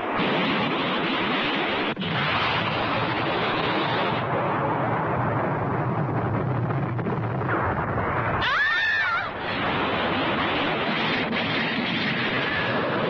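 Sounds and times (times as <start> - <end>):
rumbling explosion: 0.0 - 13.0.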